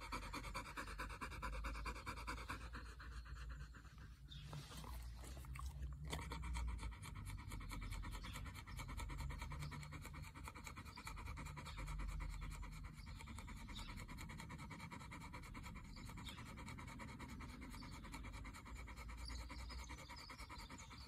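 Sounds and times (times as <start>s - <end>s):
dog panting fast: 0.0s - 21.0s.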